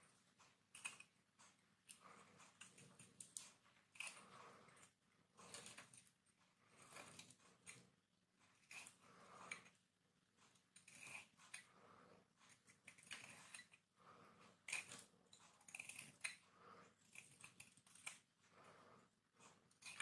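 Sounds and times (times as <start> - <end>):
knife scraping hard soap: 0.7 - 9.8, 10.5 - 20.0.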